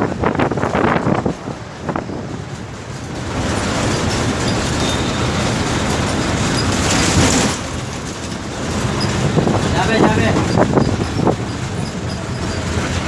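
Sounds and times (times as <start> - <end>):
bus road noise: 0.0 - 13.0.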